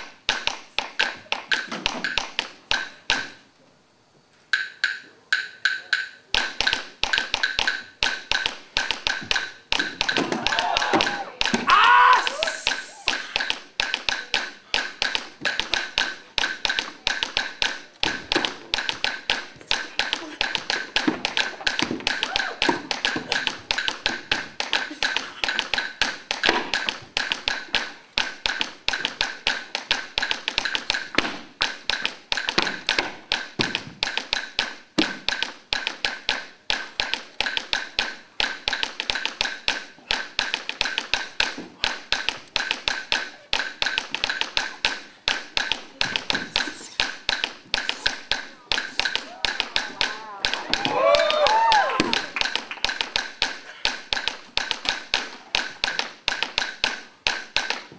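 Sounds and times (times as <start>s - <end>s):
salsa percussion taps: 4.6s - 57.9s.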